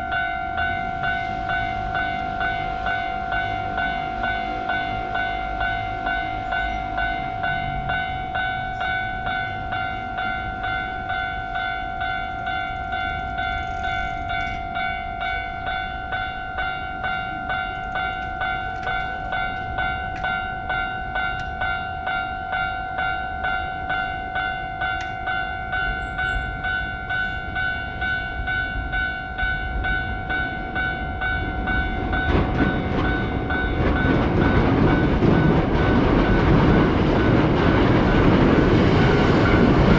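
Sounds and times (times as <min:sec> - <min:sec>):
level crossing warning bell: 0:00.0 - 0:39.9
train rolling: 0:00.0 - 0:39.9.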